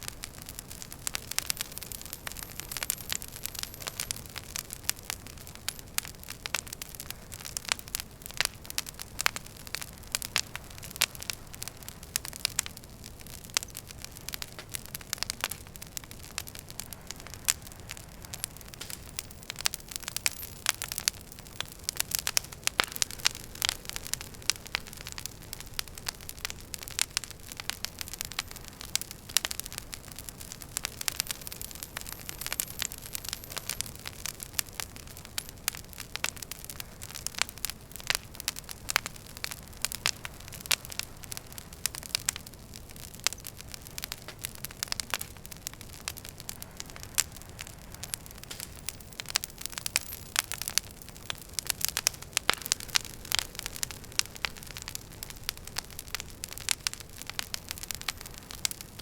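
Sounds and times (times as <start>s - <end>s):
fire hissing: 0.0s - 59.0s
wood fire crackling: 0.0s - 59.0s.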